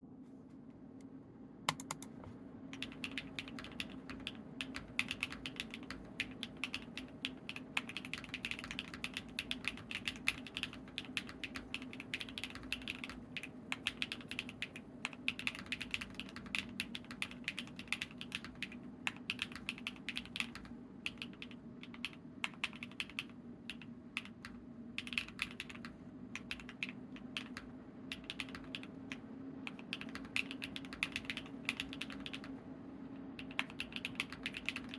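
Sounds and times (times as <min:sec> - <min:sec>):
faint steady hum: 0:00.0 - 0:34.9
mechanical keyboard typing: 0:01.7 - 0:32.5, 0:33.4 - 0:34.9.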